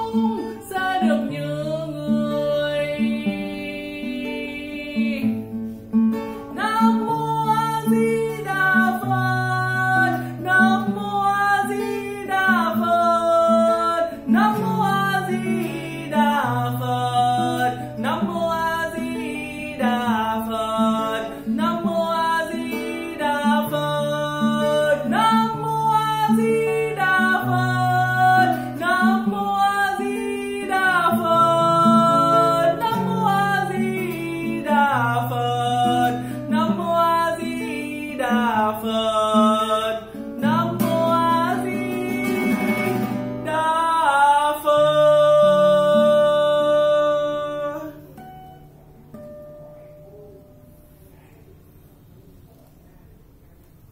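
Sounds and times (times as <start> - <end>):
man singing: 0.0 - 5.6, 6.2 - 48.2
acoustic guitar strumming: 0.0 - 51.2.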